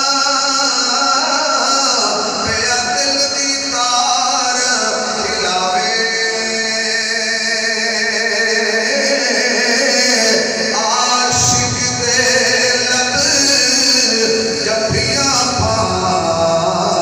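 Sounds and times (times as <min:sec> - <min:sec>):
man chanting into microphone: 0:00.0 - 0:17.0.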